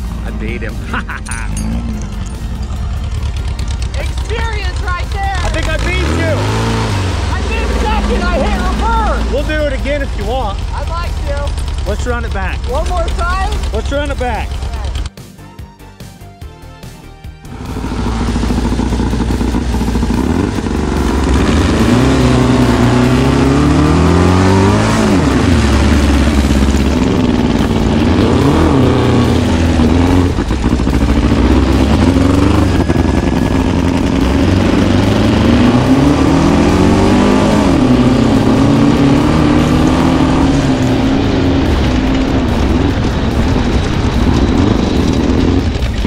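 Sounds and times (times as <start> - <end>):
engines revving: 0.0 - 15.1, 17.5 - 46.0.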